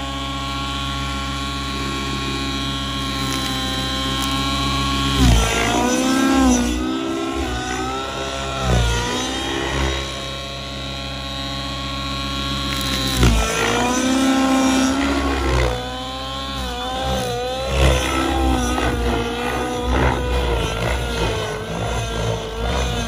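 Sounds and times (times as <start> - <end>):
model helicopter engine and rotor: 0.0 - 23.0.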